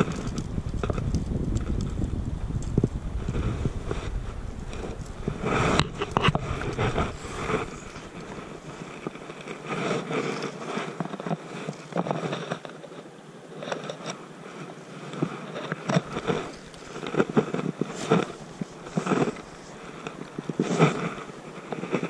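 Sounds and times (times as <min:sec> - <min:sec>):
fishing line scraping: 0:02.7 - 0:22.0
jacket sleeves rustling: 0:03.2 - 0:13.0, 0:13.6 - 0:22.0.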